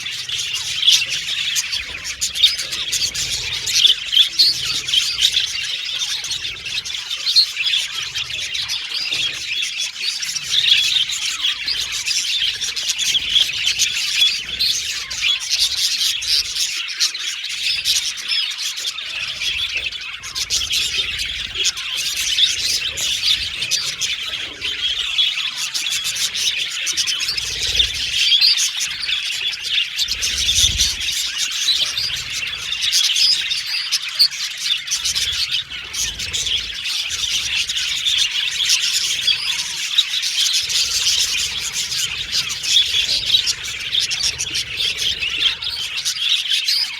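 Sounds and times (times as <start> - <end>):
budgies chirping and warbling: 0.0 - 46.9.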